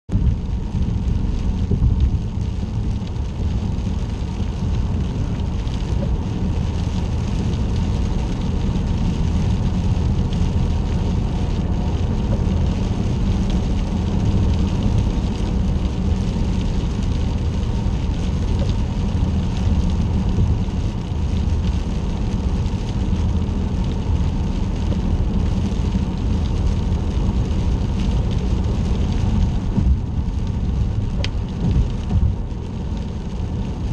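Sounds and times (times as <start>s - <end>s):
car road noise on wet road: 0.1s - 33.9s.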